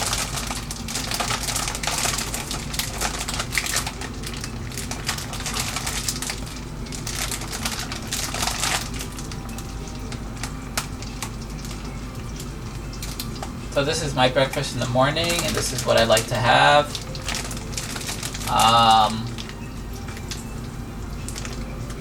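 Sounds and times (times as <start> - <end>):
crinkling rustles: 0.0 - 22.0
steady low hum: 0.0 - 22.0.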